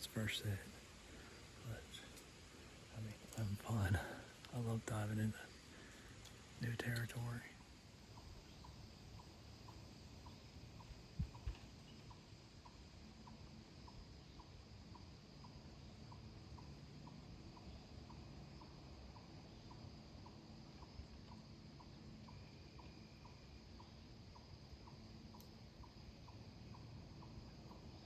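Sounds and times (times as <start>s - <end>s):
faint regular ticking: 0.0s - 28.0s.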